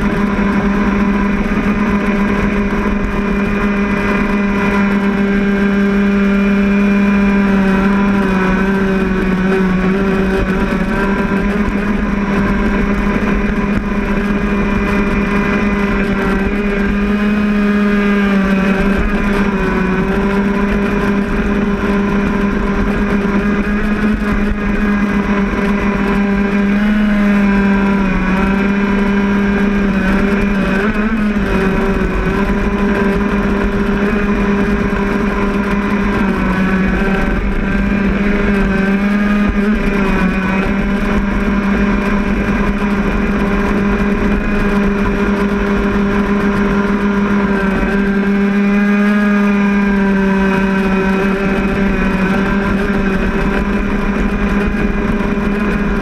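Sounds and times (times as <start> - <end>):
two-stroke boat engine running: 0.0 - 56.0.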